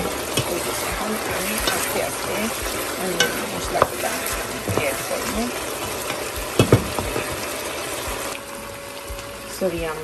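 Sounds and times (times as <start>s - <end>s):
meat sizzling in a pot: 0.0s - 10.0s.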